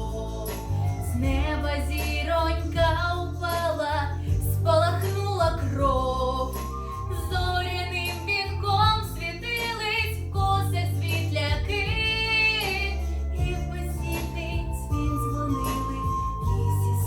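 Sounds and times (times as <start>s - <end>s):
girl singing pop song: 0.0s - 17.0s
instrumental backing track: 0.0s - 17.0s.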